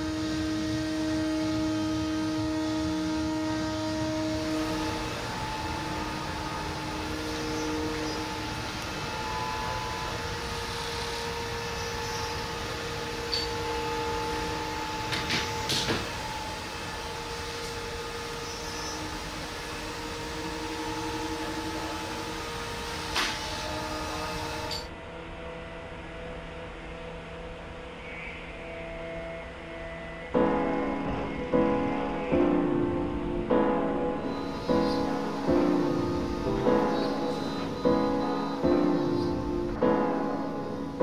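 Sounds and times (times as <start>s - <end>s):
mechanical hum: 0.0s - 41.0s
music: 0.0s - 41.0s.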